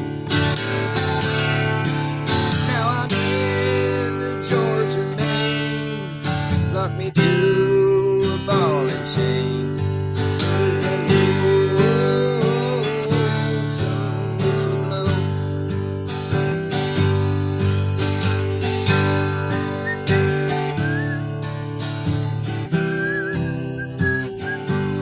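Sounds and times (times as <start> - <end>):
acoustic guitar strumming: 0.0 - 25.0
bending guitar melody notes: 0.0 - 25.0.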